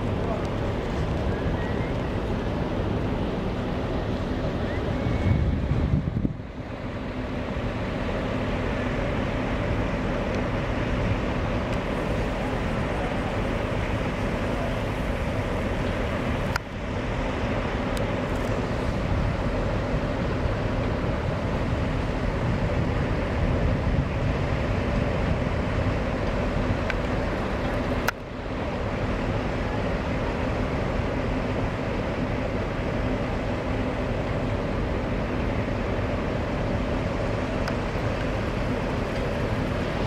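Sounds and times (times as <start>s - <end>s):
street traffic engine hum: 0.0s - 40.0s.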